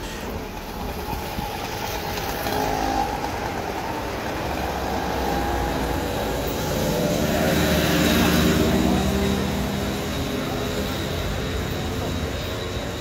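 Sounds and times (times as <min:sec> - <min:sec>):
busy street traffic: 0:00.0 - 0:13.0.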